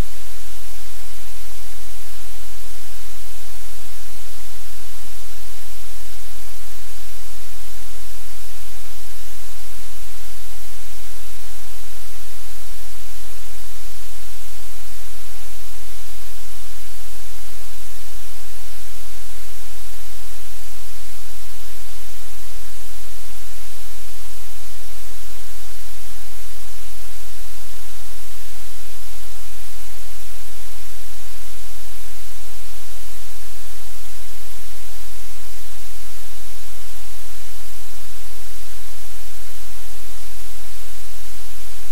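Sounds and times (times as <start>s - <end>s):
static hiss: 0.0s - 41.9s.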